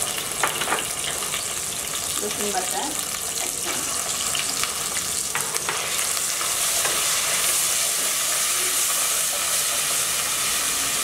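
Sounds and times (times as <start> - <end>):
oil sizzling in a metal pan: 0.0 - 11.0.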